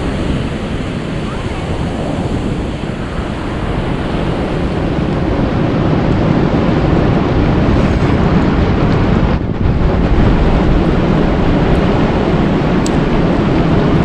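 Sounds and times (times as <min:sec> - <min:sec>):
rushing natural ambience: 0:00.0 - 0:14.0.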